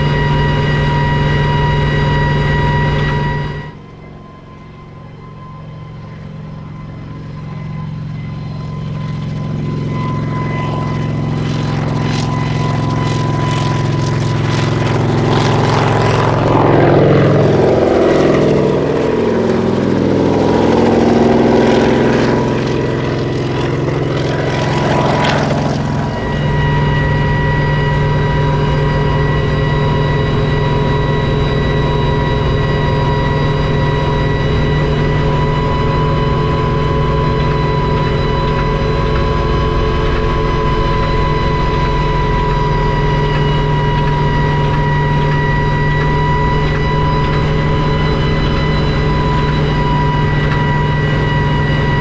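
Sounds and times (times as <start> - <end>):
helicopter passing by: 0.0 - 52.0.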